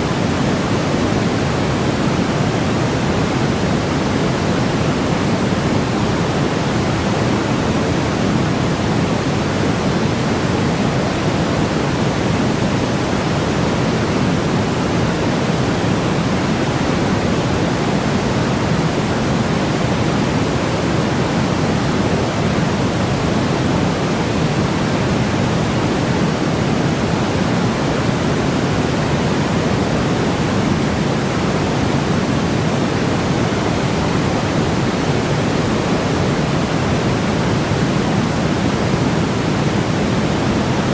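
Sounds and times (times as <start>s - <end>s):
steady pink noise: 0.0s - 40.9s.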